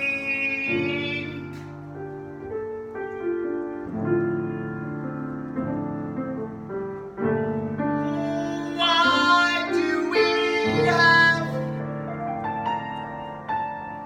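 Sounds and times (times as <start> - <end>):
piano playing held chords: 0.0 - 14.0.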